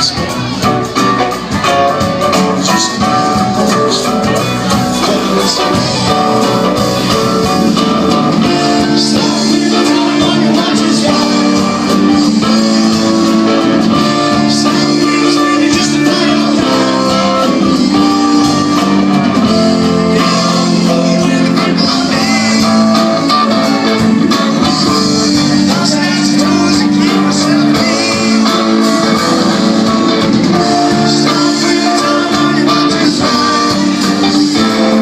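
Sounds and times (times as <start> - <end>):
live band playing: 0.0 - 35.0.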